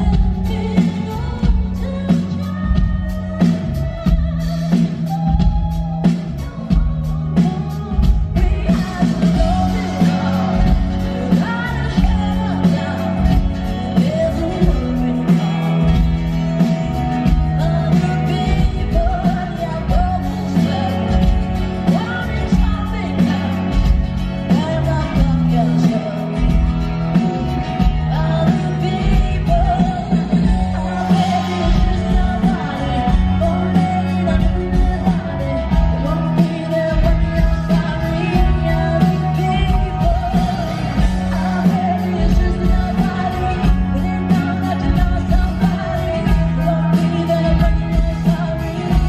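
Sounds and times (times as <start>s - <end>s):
drum kit beat: 0.0s - 49.0s
woman singing: 0.0s - 49.0s.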